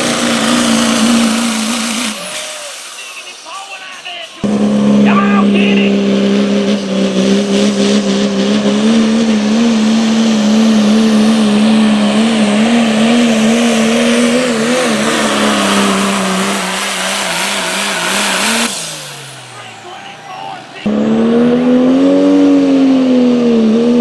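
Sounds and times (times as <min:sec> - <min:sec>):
diesel engine high-pitched drone: 0:00.0 - 0:24.0.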